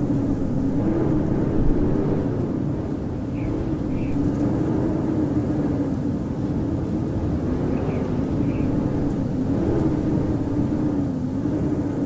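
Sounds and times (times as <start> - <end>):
howling blizzard wind: 0.0 - 12.0.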